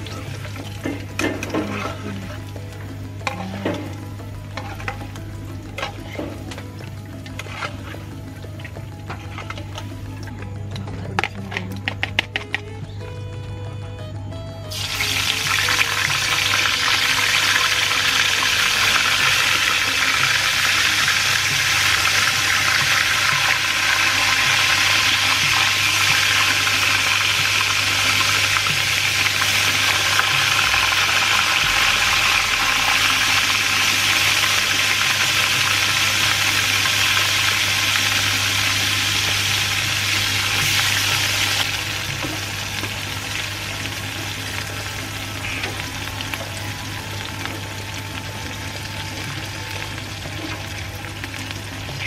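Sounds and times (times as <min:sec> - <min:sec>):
food deep-frying in oil: 0:00.0 - 0:10.6, 0:14.7 - 0:52.0.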